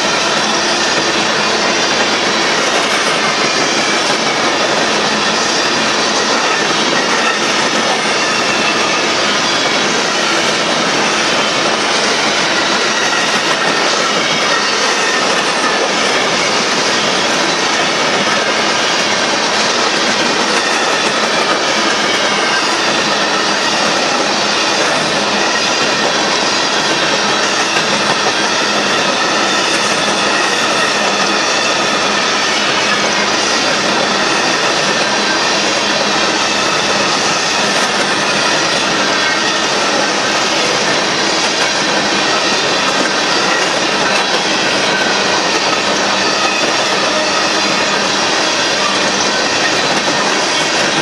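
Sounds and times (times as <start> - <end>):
steel train wheels on rails: 0.0 - 51.0.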